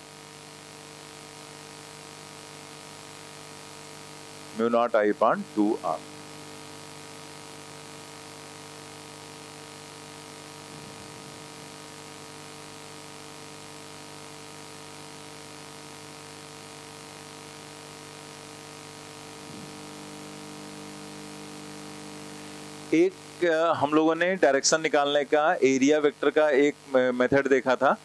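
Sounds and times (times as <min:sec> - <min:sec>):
electrical hum and hiss: 0:00.0 - 0:28.0.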